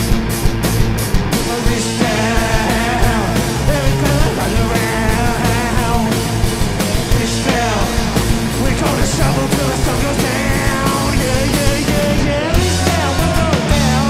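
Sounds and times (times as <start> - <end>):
drum kit: 0.0 - 14.0
electric guitars: 0.0 - 14.0
male lead vocal: 1.3 - 14.0.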